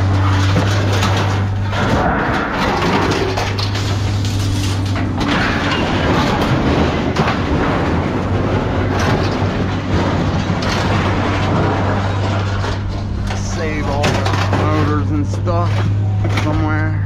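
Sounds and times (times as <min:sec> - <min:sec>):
scrap steel clanging onto pile: 0:00.0 - 0:16.9
low engine hum: 0:00.0 - 0:17.0.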